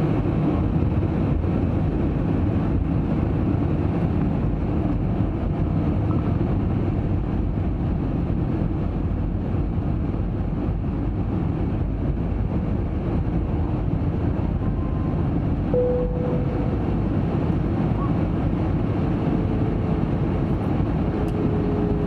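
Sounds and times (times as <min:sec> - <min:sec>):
airliner cabin noise: 0:00.0 - 0:22.0.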